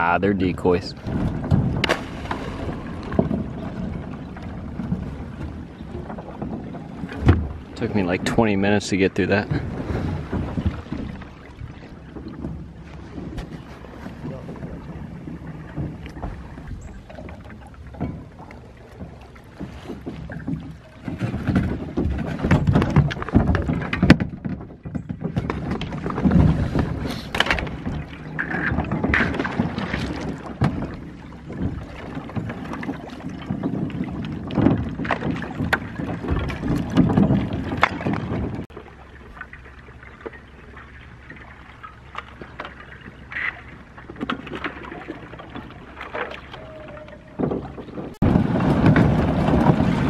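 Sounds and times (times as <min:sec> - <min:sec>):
people wading and splashing: 0:00.0 - 0:50.0.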